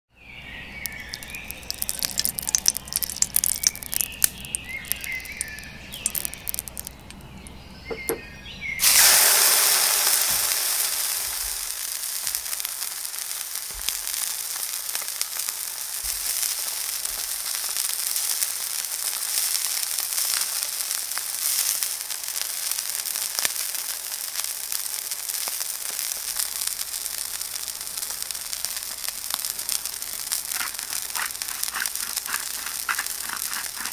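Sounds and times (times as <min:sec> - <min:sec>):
sharp crackles and pops: 0:00.7 - 0:08.2, 0:08.8 - 0:33.9
steak sizzling in frying pan: 0:00.8 - 0:07.2, 0:08.8 - 0:33.9.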